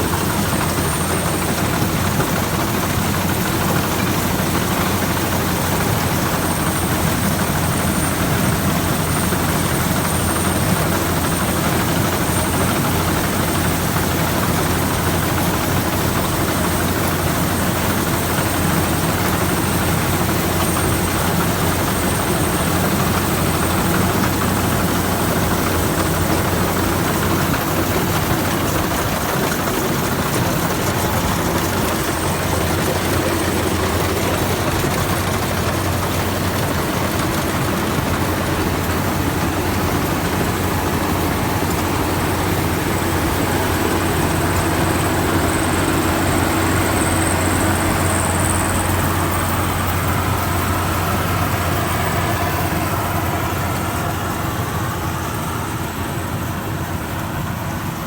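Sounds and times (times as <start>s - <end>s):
combine harvester engine droning: 0.0s - 58.0s
machinery rushing noise: 0.0s - 58.0s.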